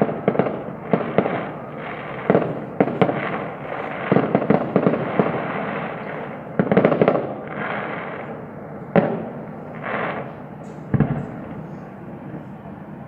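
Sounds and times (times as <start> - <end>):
firework bangs: 0.0 - 12.6
fireworks crackling: 0.0 - 12.6.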